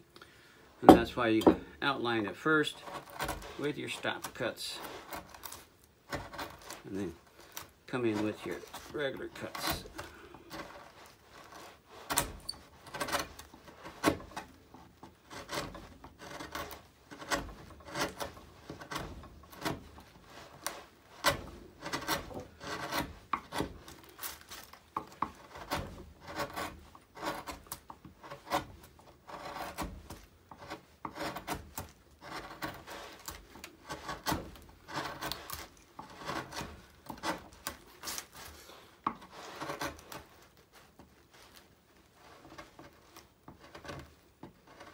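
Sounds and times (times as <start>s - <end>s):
carving tool scraping wood: 0.8s - 44.9s.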